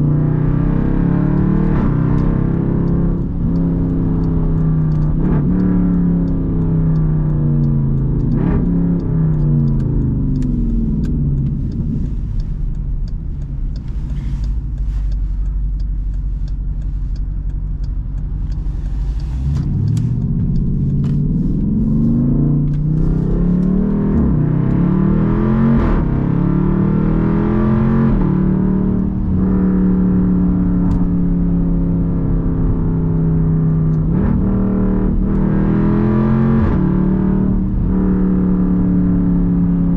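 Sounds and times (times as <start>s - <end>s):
car exhaust drone with upshifts: 0.0s - 39.9s.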